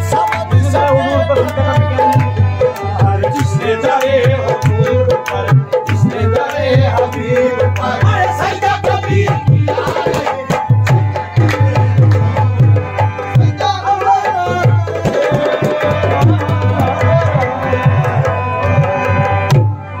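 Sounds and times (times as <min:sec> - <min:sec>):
harmonium sustained notes: 0:00.0 - 0:20.0
tabla rhythm: 0:00.0 - 0:20.0.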